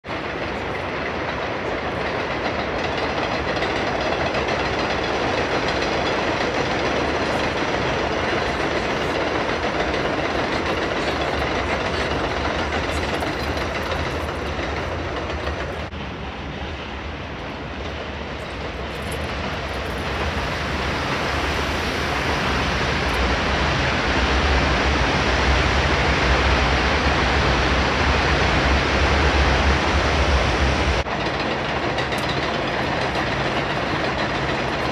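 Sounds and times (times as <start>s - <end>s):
subway trains on elevated track: 0.0s - 34.9s.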